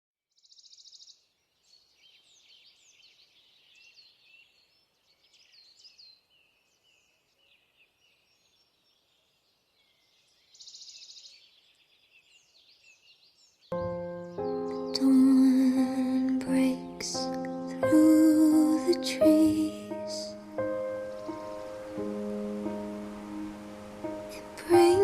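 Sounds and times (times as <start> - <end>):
small birds chirping and whistling: 0.4 - 25.0.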